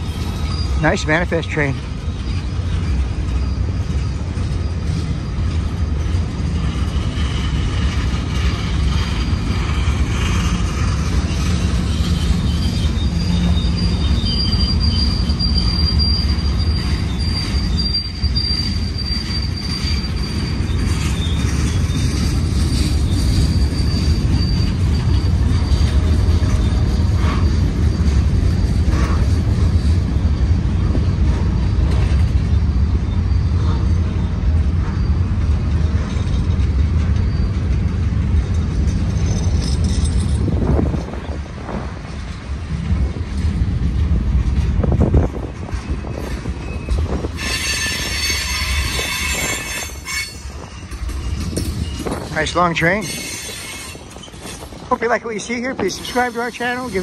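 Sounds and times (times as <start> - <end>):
high wheel squeal: 0.0 - 1.0, 2.0 - 7.6, 8.4 - 41.4, 45.1 - 57.0
freight train wheels rumbling: 0.0 - 57.0.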